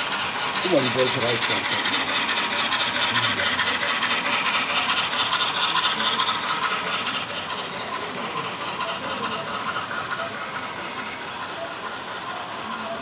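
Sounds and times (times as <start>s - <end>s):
model train rattling on track: 0.0s - 13.0s.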